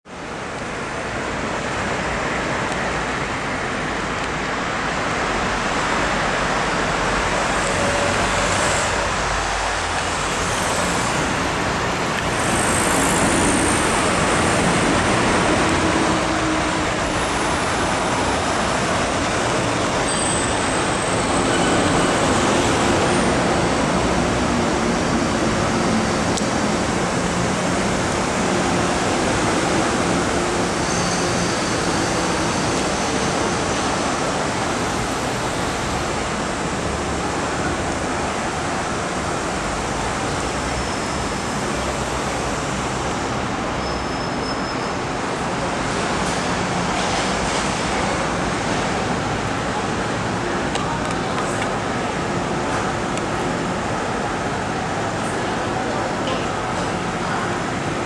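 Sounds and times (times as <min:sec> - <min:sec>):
city traffic noise: 0:00.0 - 0:58.0
train running into station: 0:00.1 - 0:58.0.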